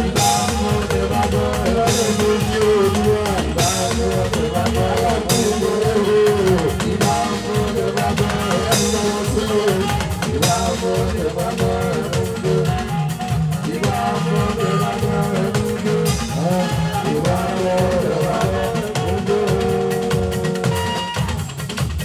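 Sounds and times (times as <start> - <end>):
drums and percussion music: 0.0 - 22.0.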